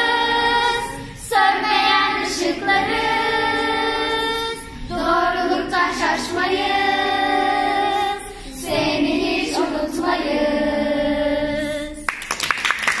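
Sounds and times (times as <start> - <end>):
children and woman singing: 0.0 - 12.1.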